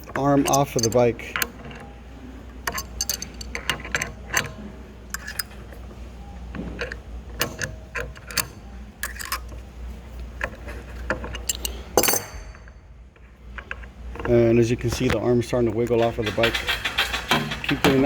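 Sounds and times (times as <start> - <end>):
wrench clicking and clanking: 0.0 - 1.9, 2.6 - 5.8, 6.5 - 9.6, 10.4 - 12.9, 13.5 - 18.0.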